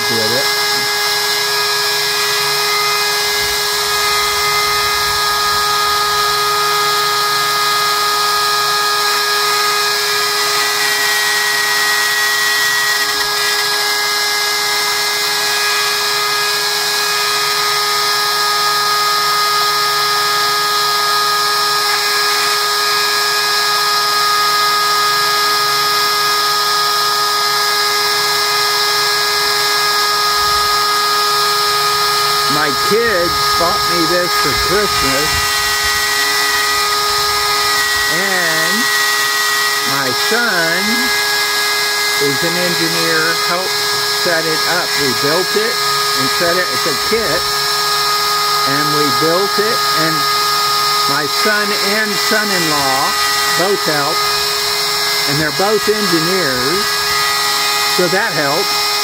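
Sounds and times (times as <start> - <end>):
router high whine: 0.0 - 59.0.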